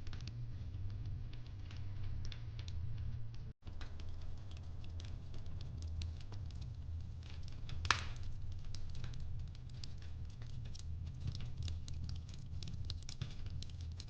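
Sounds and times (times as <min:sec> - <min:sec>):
fireplace crackling: 0:00.0 - 0:14.0.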